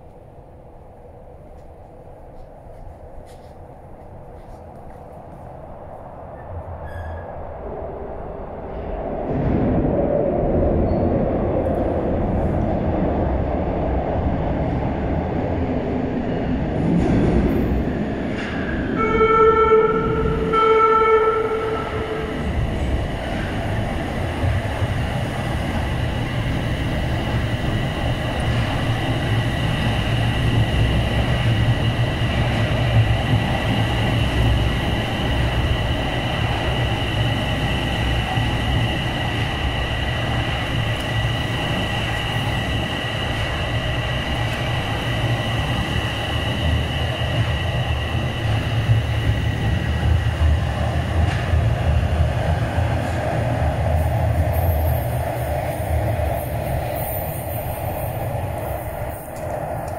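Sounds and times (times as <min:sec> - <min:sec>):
high train whine: 0:00.0 - 0:59.9
subway train rumble: 0:00.0 - 0:59.9.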